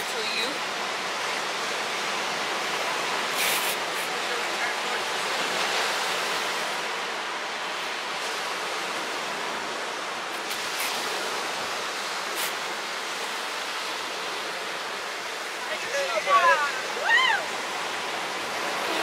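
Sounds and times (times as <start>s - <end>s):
ocean surf washing over rocks: 0.0s - 19.0s.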